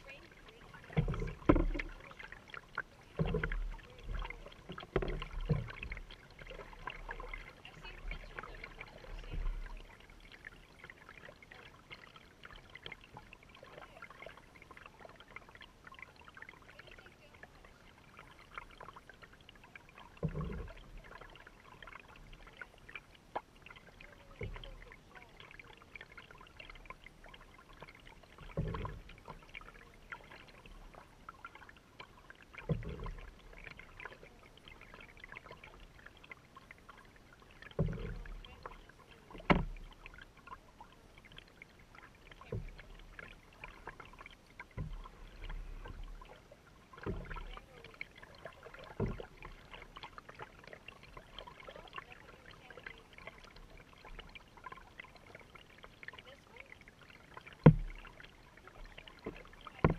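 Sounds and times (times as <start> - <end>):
water splashing against canoe hull: 0.0 - 59.9.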